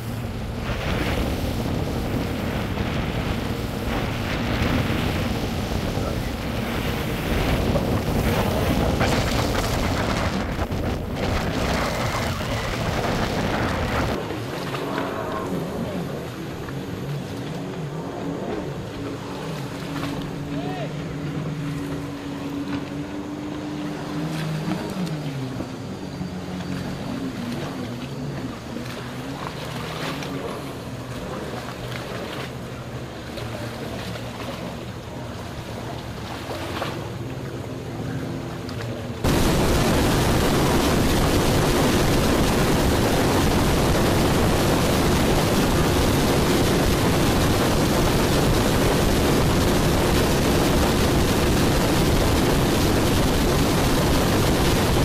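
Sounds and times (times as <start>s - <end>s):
boat engine droning: 0.0s - 55.0s
loud steady rushing noise: 0.0s - 55.0s.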